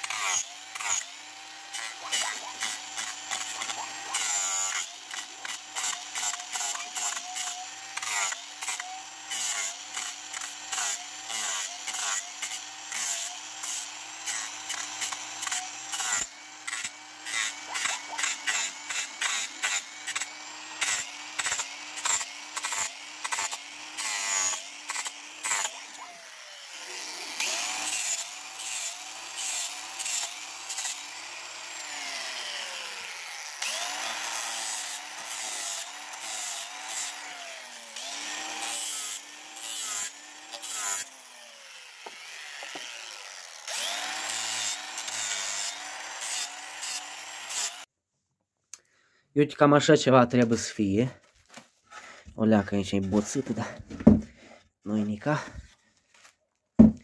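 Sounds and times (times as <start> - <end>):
angle grinder sanding wood: 0.0 - 47.9, 50.4 - 57.0.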